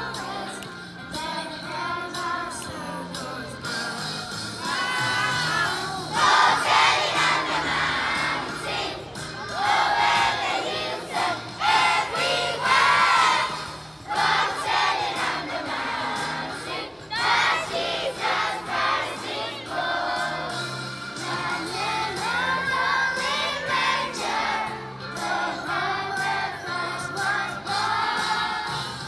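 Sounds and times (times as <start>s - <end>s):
choir singing: 0.0s - 29.0s
instrumental backing with bass line: 0.0s - 29.0s.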